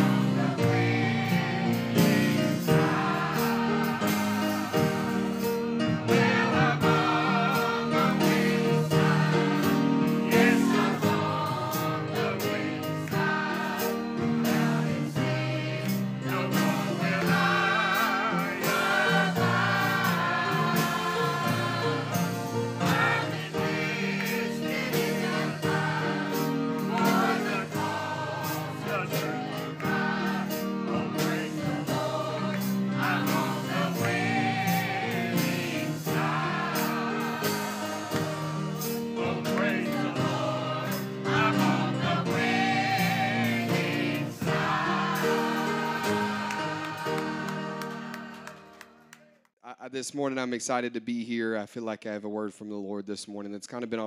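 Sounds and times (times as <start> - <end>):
church choir singing gospel: 0.0 - 49.2
piano: 0.0 - 49.5.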